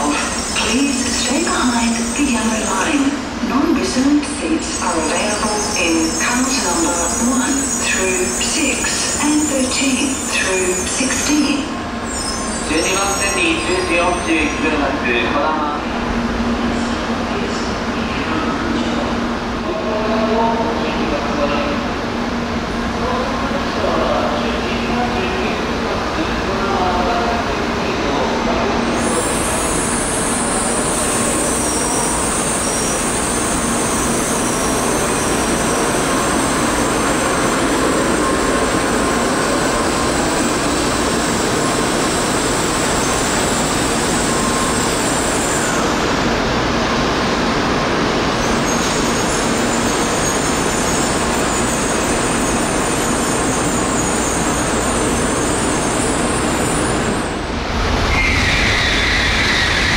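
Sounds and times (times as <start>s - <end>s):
bullet train rushing past: 0.0s - 59.9s.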